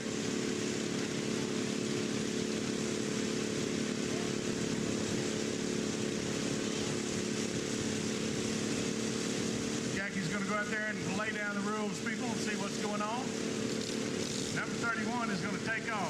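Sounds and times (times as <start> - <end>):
lawn mower engines running: 0.0 - 16.0.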